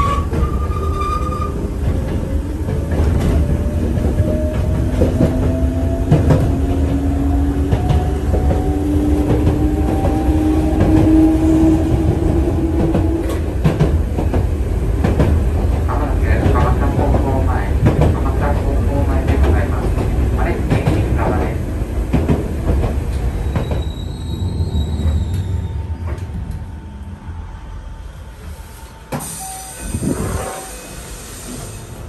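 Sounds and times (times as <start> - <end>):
low train rumble: 0.0 - 32.0.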